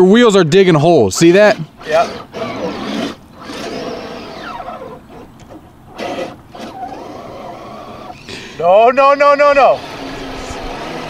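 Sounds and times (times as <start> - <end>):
electric motor whining: 1.2 - 11.0
wheels churning water and mud: 1.2 - 11.0.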